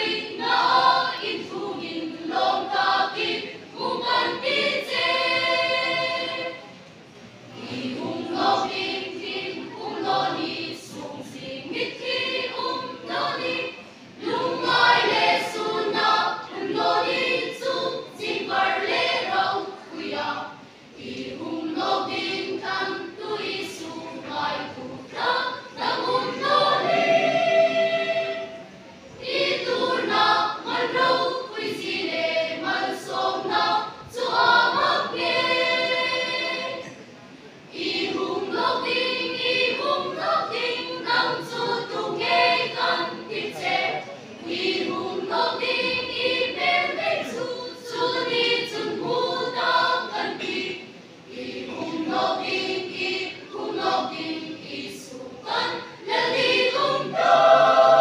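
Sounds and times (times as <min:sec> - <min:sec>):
mixed choir singing: 0:00.0 - 0:06.8, 0:07.4 - 0:58.0.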